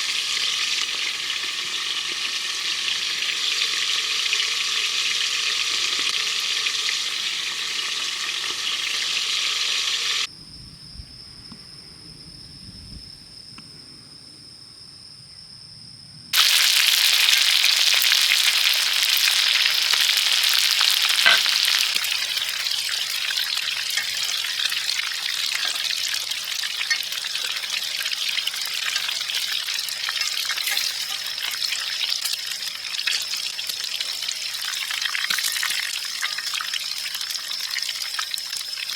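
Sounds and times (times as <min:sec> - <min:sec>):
food sizzling on a griddle: 0:00.0 - 0:10.3, 0:16.4 - 0:38.9.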